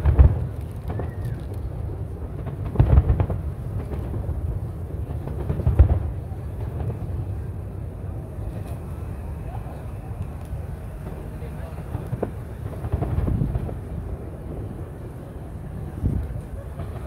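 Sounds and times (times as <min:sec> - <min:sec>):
firework shells booming: 0:00.0 - 0:07.5, 0:10.5 - 0:17.0
low background noise: 0:00.0 - 0:17.0.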